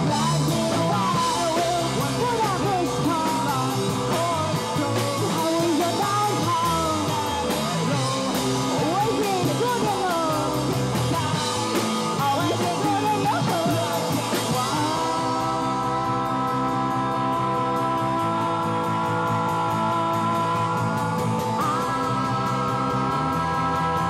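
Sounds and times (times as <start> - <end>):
bending lead guitar line: 0.0 - 24.0
live rock band playing: 0.0 - 24.0.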